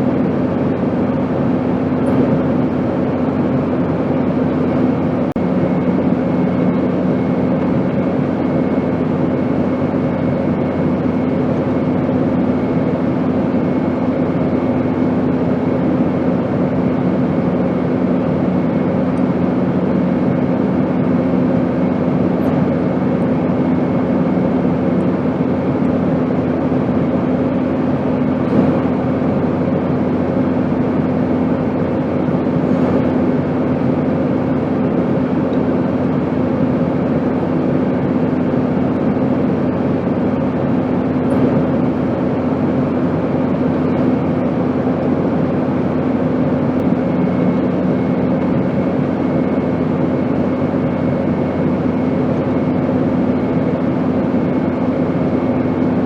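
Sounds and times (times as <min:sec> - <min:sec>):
airplane drone: 0:00.0 - 0:56.0.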